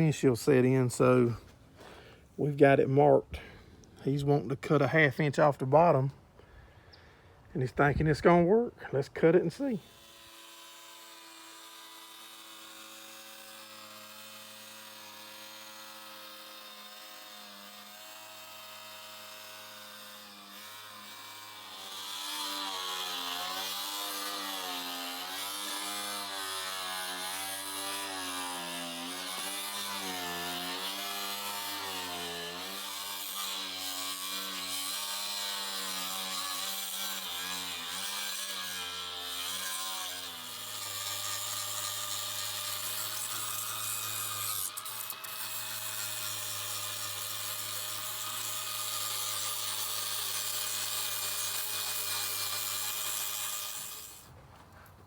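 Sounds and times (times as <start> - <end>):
electric power saw cutting: 9.6 - 54.4.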